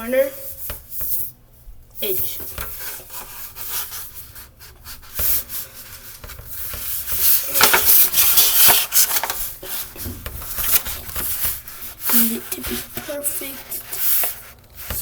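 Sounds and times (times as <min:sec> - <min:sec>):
fingers rubbing along paper: 0:02.7 - 0:15.0
paper being folded: 0:02.7 - 0:15.0.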